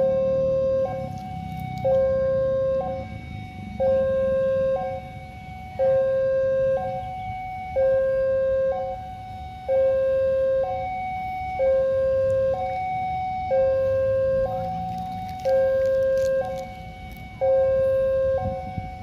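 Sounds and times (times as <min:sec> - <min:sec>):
two-tone electronic warning signal: 0:00.0 - 0:19.0.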